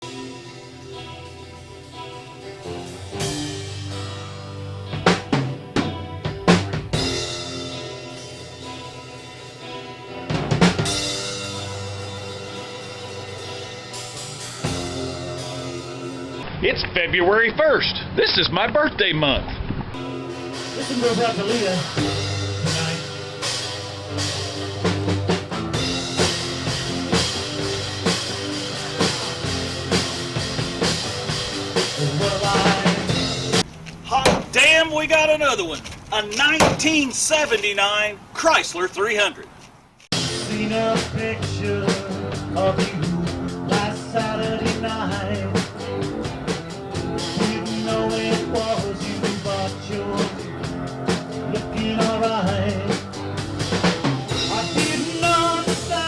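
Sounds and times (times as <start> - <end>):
intro music held chords: 0.0 - 16.4, 20.0 - 33.7, 40.1 - 56.0.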